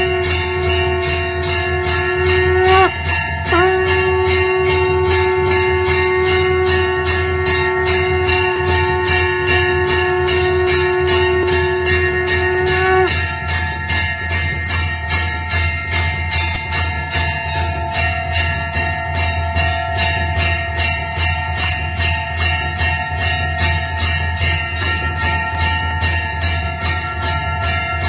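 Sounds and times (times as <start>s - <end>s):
temple bells ringing rapidly: 0.0s - 28.0s.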